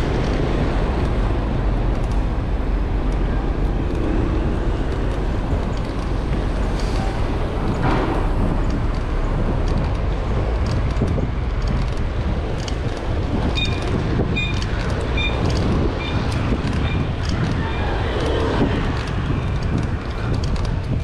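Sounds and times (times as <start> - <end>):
road traffic: 0.0 - 21.0
wind rumbling on microphone: 0.0 - 21.0.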